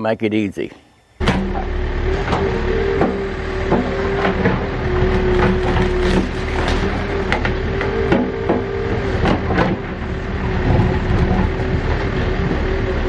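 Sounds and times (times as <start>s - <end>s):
diesel engine running: 1.2s - 13.0s.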